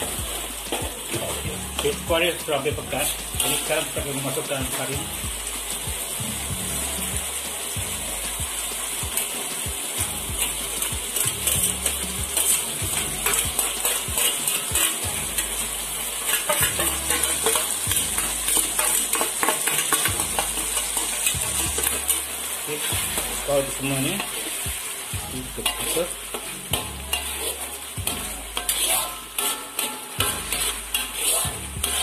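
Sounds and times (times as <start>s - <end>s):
metal spatula scraping pan: 0.0s - 5.8s, 8.2s - 32.0s
sauce sizzling and bubbling: 0.0s - 32.0s.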